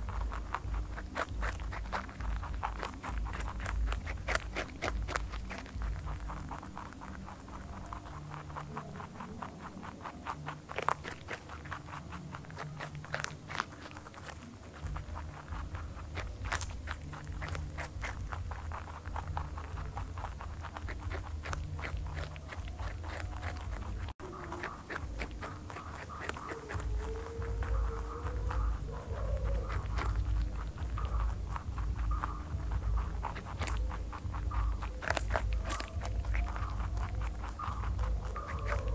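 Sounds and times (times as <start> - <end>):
rabbits chewing crunchy vegetables: 0.0 - 38.9.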